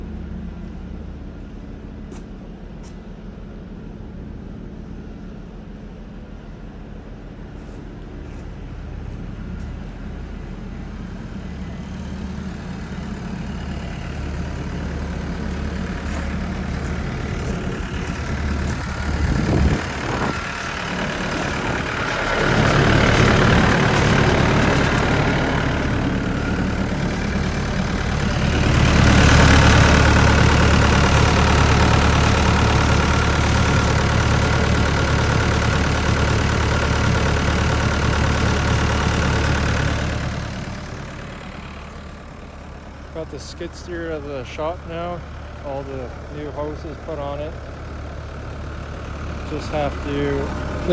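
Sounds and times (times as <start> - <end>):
skid steer engine running: 7.4 - 50.9.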